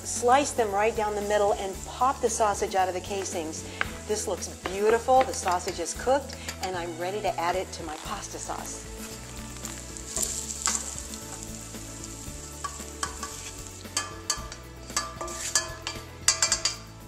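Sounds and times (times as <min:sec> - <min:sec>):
sizzling hiss: 0:00.0 - 0:17.0
spoon scraping metal skillet: 0:01.0 - 0:16.9.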